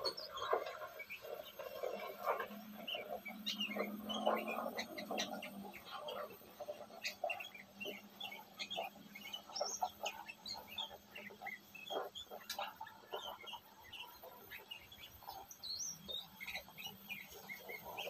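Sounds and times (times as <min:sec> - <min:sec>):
bird chirping and chattering: 0:00.0 - 0:18.0.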